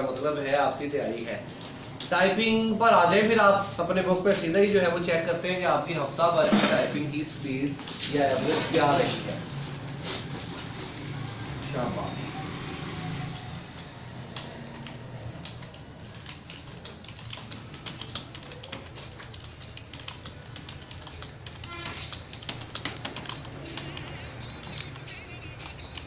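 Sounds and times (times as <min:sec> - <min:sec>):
computer keyboard typing: 0:00.0 - 0:09.7, 0:10.3 - 0:26.0.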